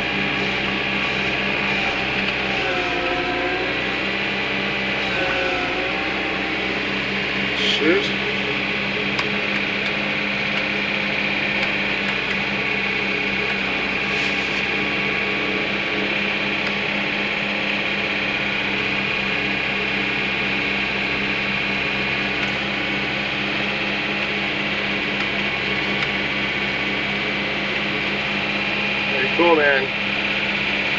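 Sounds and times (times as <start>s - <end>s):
snow blower high whine: 0.0s - 30.9s
tractor engine running under load: 0.0s - 30.9s.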